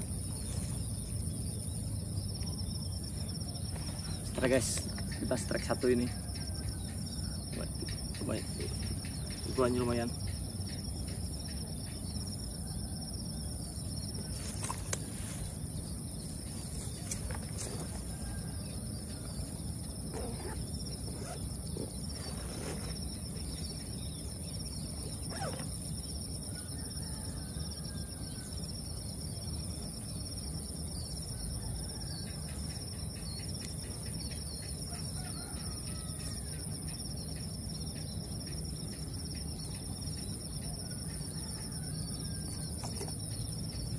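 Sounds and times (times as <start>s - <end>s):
insects buzzing: 0.0s - 43.9s.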